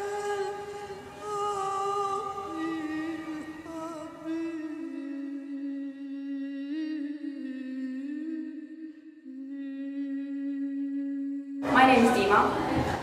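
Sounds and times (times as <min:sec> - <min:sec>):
person humming slow melody: 0:00.0 - 0:11.7.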